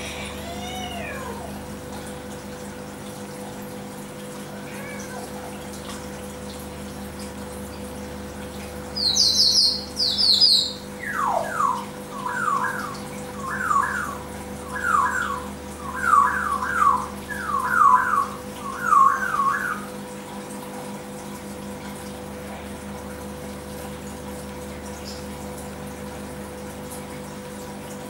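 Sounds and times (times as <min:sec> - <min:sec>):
aquarium equipment hum: 0:00.0 - 0:28.0.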